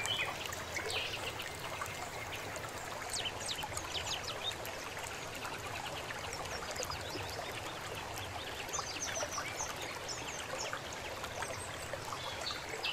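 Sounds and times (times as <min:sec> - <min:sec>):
running water: 0:00.0 - 0:12.9.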